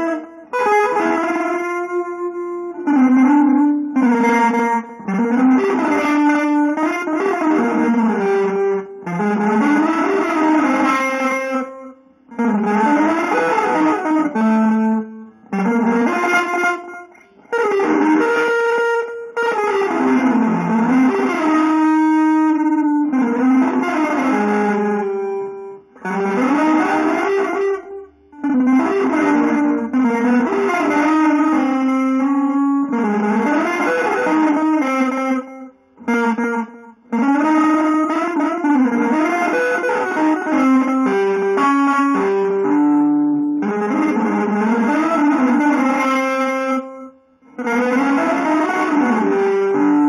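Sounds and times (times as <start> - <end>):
guitar phrases ringing: 0.0 - 50.0.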